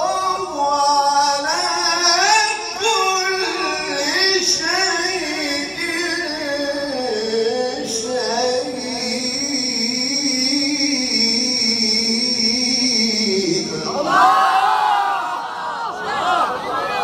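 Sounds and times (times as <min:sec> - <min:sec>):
man reciting melodically: 0:00.0 - 0:14.1.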